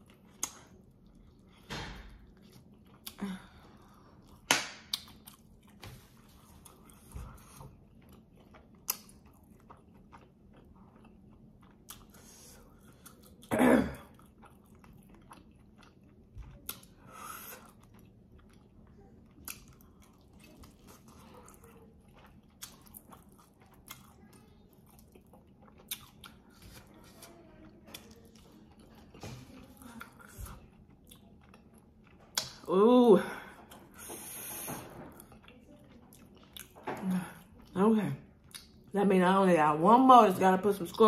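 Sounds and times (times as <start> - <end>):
chewing and crunching chicken: 0.0 - 34.2, 34.9 - 39.0.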